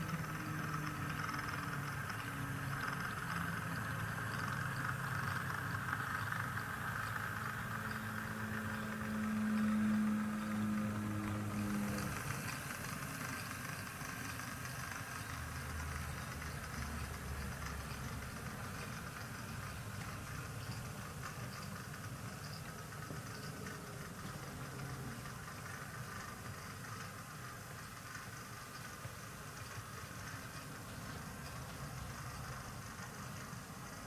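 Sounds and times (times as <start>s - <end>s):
model train mechanical hum: 0.0s - 34.0s.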